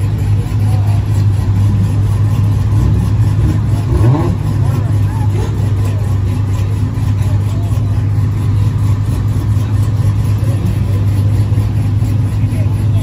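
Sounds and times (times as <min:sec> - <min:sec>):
car engine idling: 0:00.0 - 0:13.0
faint crowd chatter: 0:00.0 - 0:13.0.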